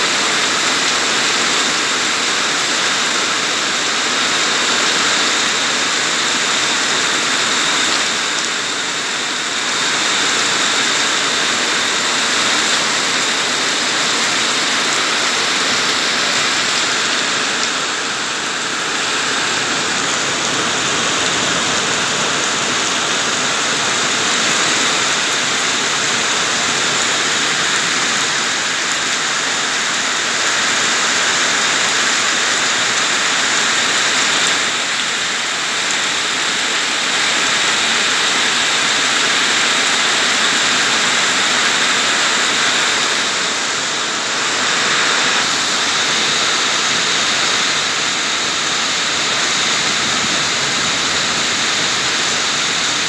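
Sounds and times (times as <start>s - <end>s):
heavy rain on pavement: 0.0s - 53.0s.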